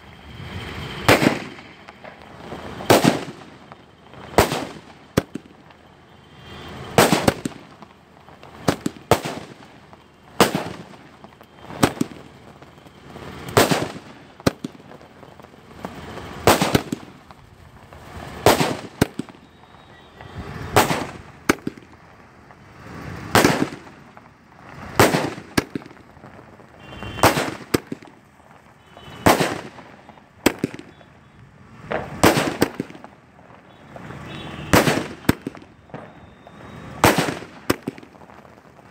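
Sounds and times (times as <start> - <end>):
firework rising hiss and crack: 0.0 - 38.9
firework bang: 0.4 - 5.7, 6.7 - 12.4, 13.1 - 19.5, 20.2 - 22.0, 22.8 - 28.2, 29.0 - 31.0, 31.8 - 33.2, 33.8 - 38.9.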